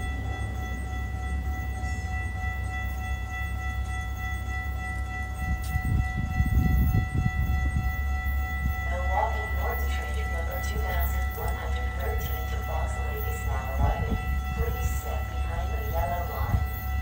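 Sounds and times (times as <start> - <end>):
distant train rumble: 0.0 - 17.0
steady high ringing tone: 0.0 - 17.0.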